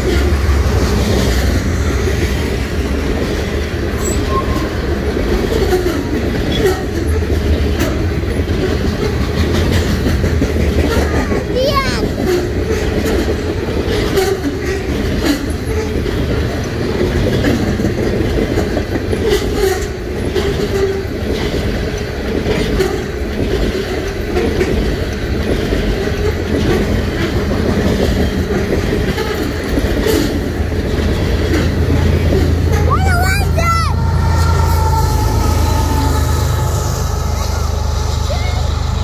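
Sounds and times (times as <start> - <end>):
freight train rumbling past: 0.0 - 39.0
wheels clacking over rail joints: 0.0 - 39.0.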